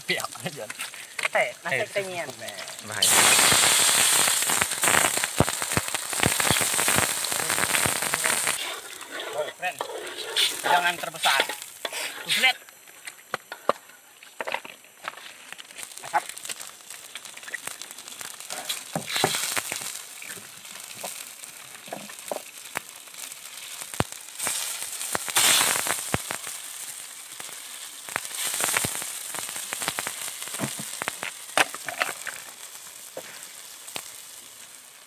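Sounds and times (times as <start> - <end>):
hissing: 0.0 - 12.7, 15.1 - 34.9
broth simmering: 0.0 - 35.0
campfire crackling and popping: 0.0 - 35.0.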